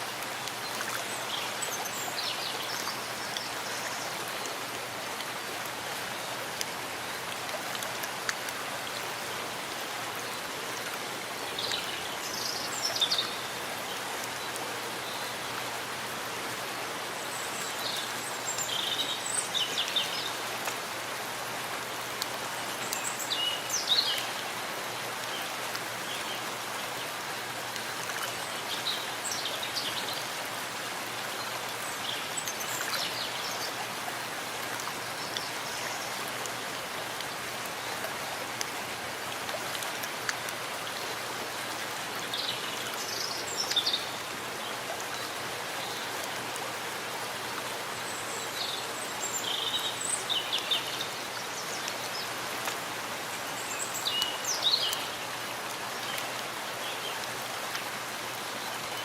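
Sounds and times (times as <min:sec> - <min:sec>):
rain falling in a forest: 0:00.0 - 0:59.0.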